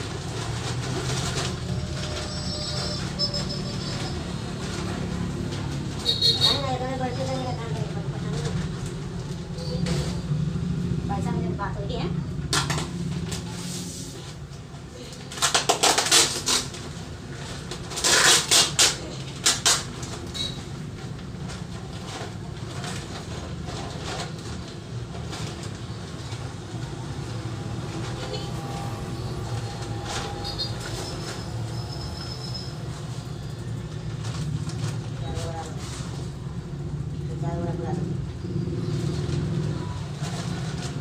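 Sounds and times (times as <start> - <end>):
plastic sacks rustling and flapping: 0.0 - 10.3, 12.5 - 37.2, 38.1 - 41.0.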